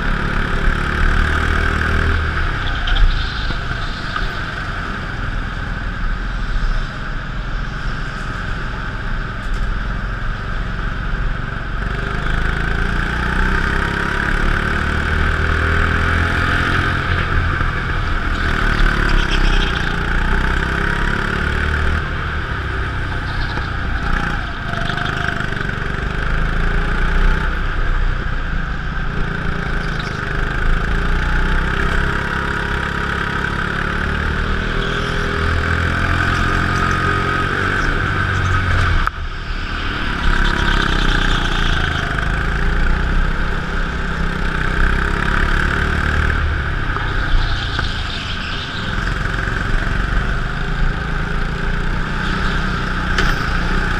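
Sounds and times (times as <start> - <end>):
go-kart engine running: 0.0 - 53.9.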